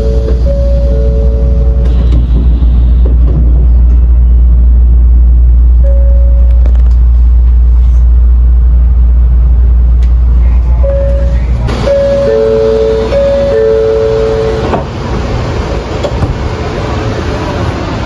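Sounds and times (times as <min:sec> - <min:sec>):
train interior rumble: 0:00.0 - 0:18.0.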